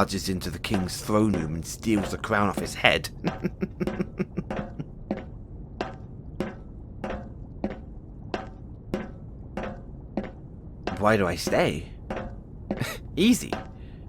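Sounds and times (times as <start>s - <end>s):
footsteps walking: 0.0s - 13.8s.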